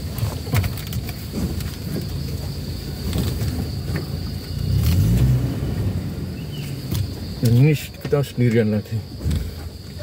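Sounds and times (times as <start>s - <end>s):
insects chirring: 0.0s - 10.0s
vehicle engine running at low speed: 0.0s - 10.0s.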